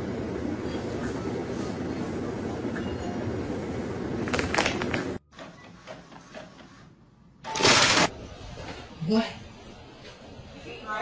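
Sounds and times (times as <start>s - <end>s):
steady noisy background: 0.0s - 5.2s, 7.0s - 11.0s.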